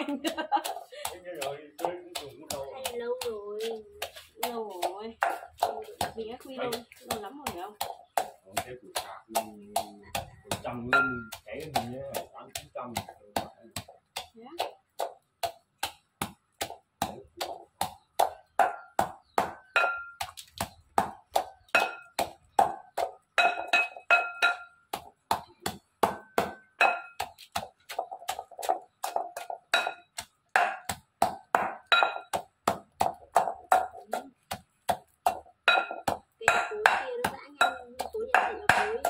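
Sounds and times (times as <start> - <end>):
pestle clinking in ceramic mortar: 0.2 - 16.0, 17.8 - 39.0.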